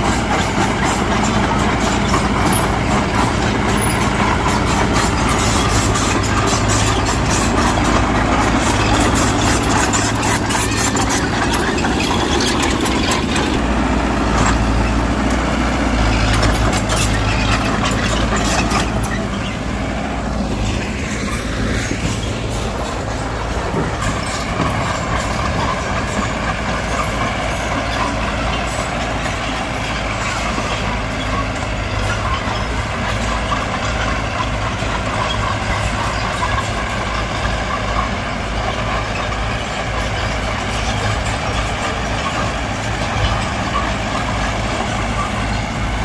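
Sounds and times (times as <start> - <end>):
bulldozer diesel engine drone: 0.0 - 46.0.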